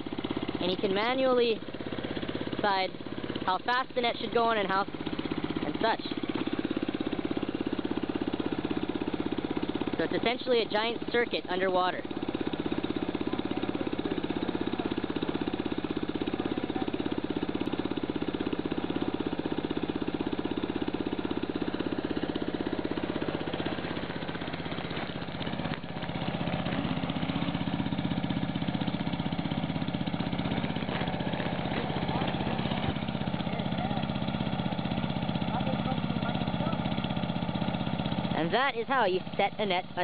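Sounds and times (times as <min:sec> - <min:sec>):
small engine idling: 0:00.0 - 0:40.0.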